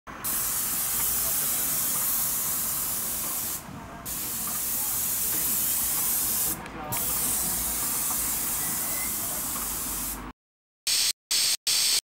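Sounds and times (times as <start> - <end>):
paint spray gun hissing: 0.2 - 10.2.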